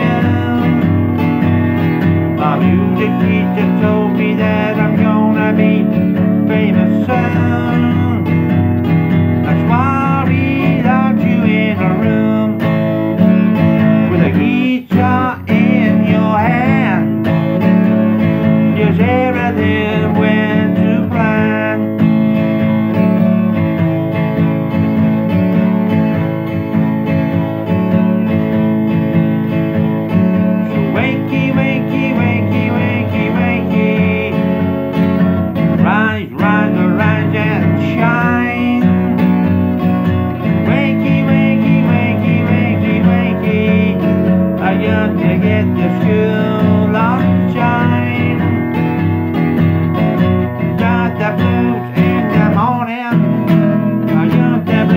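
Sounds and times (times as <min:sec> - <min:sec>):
acoustic guitar blues strumming: 0:00.0 - 0:54.9.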